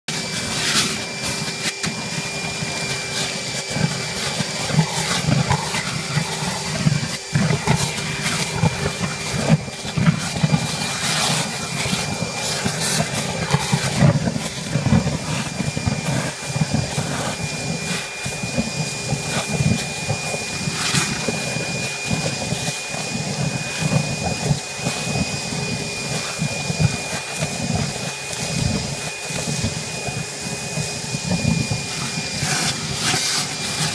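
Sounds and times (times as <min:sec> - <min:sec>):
vacuum motor whine: 0:00.1 - 0:33.9
suction gurgling and slurping: 0:00.4 - 0:30.2.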